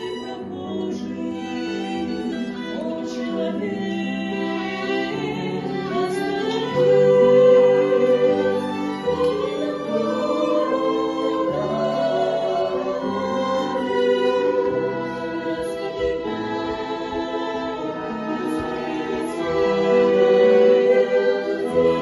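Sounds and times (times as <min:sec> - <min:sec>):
instrumental accompaniment: 0:00.0 - 0:22.0
person singing christian song: 0:00.0 - 0:22.0.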